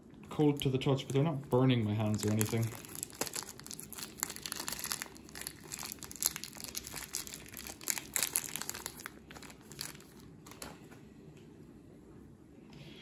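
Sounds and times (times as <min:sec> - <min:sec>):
plastic wrapping crinkling: 0:00.3 - 0:10.8.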